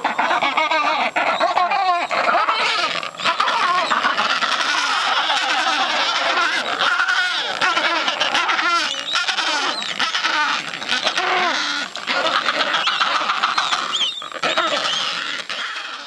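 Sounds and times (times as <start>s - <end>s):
penguin colony braying calls: 0.0s - 16.0s.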